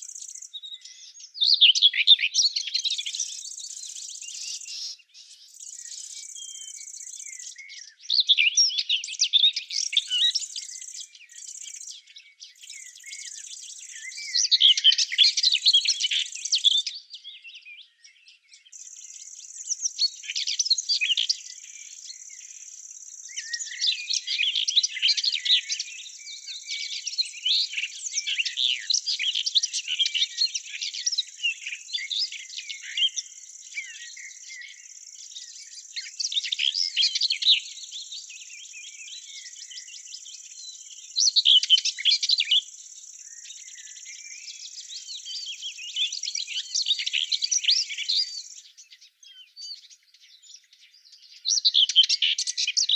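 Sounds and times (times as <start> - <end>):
songbirds twittering: 0.0 - 52.9.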